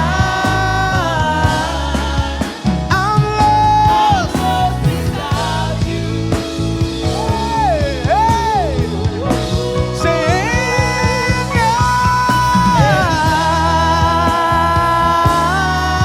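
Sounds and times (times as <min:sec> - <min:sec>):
gospel band playing: 0:00.0 - 0:16.0.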